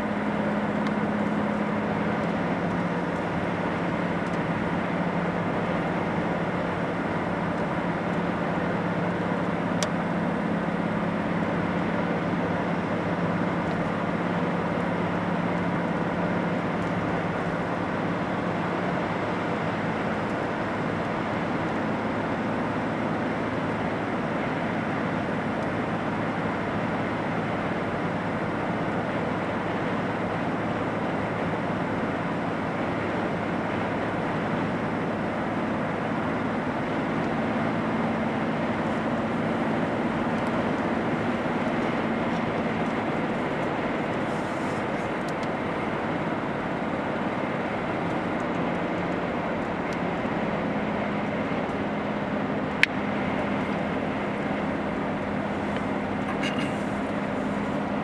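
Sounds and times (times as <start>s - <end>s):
low engine hum: 0.0s - 58.0s
tyre and road noise: 0.0s - 58.0s.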